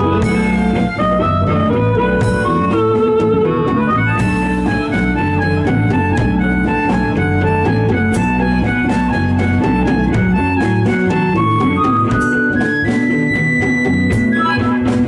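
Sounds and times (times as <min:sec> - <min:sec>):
blues band playing: 0:00.0 - 0:15.0
harmonica solo: 0:00.0 - 0:15.0.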